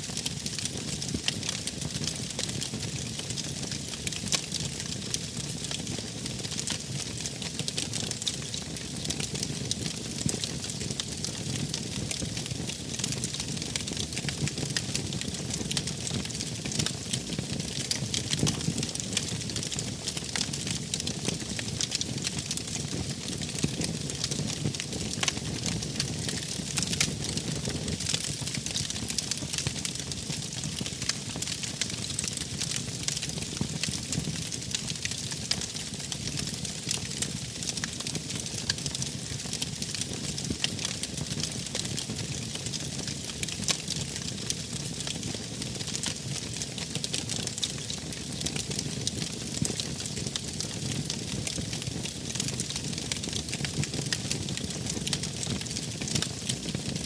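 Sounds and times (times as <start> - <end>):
low fire rumble: 0.1 - 57.0
wood fire crackling: 0.1 - 57.0.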